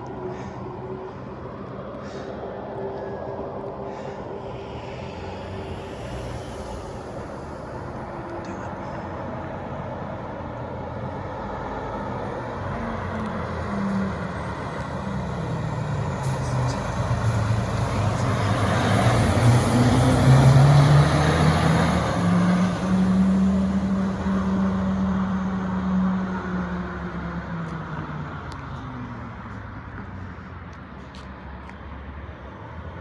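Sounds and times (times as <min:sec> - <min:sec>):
diesel engine accelerating: 0:00.0 - 0:30.8.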